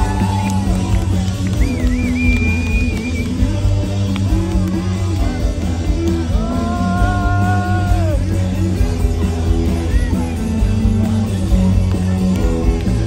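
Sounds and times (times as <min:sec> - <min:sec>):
live rock band with orchestra: 0:00.0 - 0:13.0.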